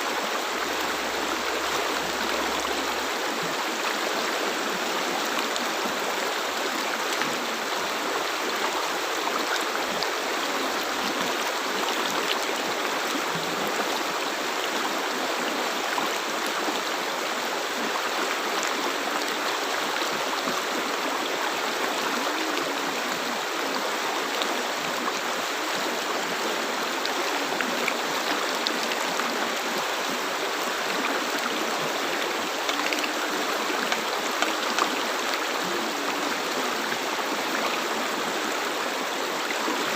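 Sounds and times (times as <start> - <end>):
river water flowing over rocks: 0.0 - 39.9
water splashes and gurgles: 0.0 - 39.9.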